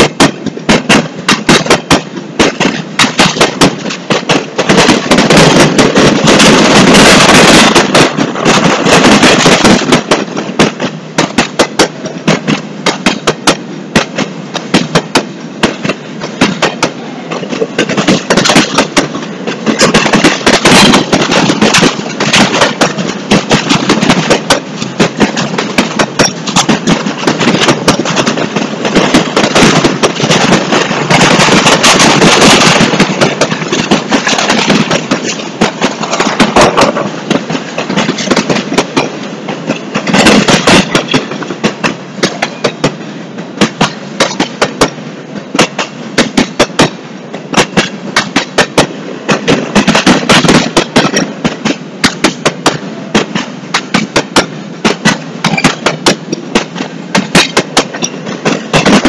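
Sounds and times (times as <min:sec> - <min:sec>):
freight train cars clattering: 0:00.0 - 0:59.0.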